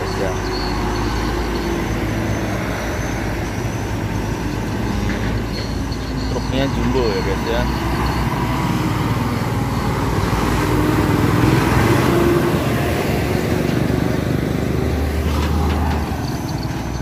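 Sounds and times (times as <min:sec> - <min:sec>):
diesel truck passing on rough road: 0:00.0 - 0:17.0.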